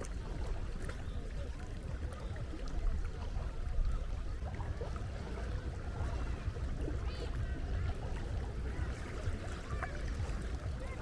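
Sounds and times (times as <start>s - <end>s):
water rumble: 0.0s - 11.0s
wind: 0.0s - 11.0s.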